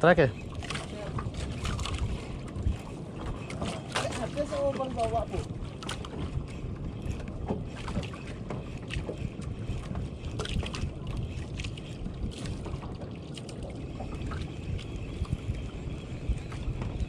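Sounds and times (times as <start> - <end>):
water sloshing around boat: 0.0 - 17.0
wind buffeting microphone: 0.0 - 17.0.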